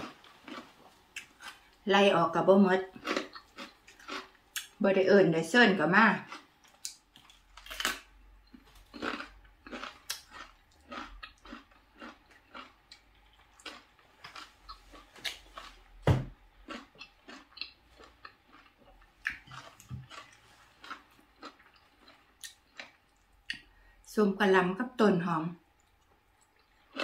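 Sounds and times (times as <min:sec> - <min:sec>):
person chewing food: 0:00.0 - 0:01.8, 0:02.9 - 0:04.8, 0:06.2 - 0:23.9, 0:25.8 - 0:27.0.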